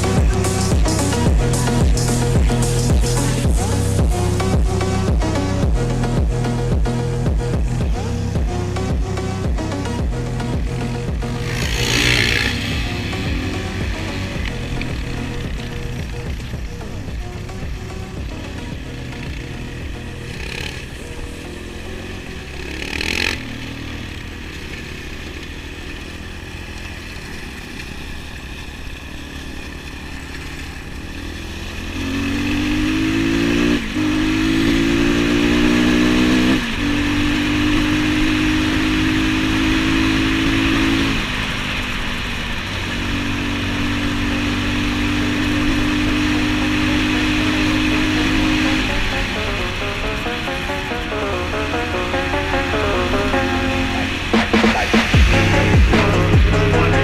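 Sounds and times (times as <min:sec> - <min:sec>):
small motorcycle engine accelerating: 0:00.0 - 0:57.0.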